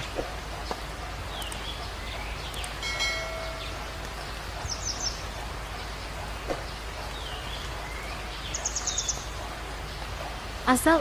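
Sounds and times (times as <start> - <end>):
small birds chirping: 0.0 - 11.0
steady rain-like hiss: 0.0 - 11.0.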